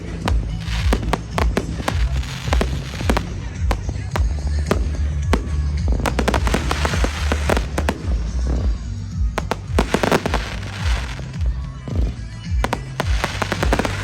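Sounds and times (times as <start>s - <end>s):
fireworks bangs and crackles: 0.0s - 14.0s
music: 0.0s - 14.0s.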